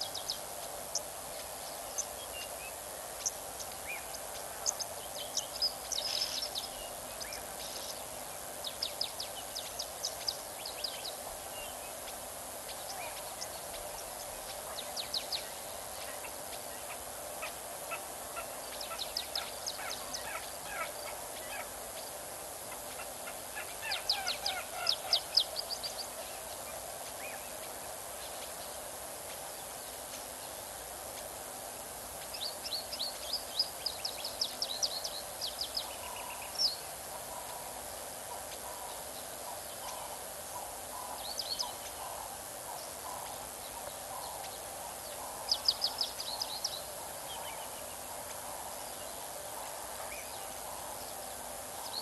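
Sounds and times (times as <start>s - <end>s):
outdoor hiss: 0.0s - 52.0s.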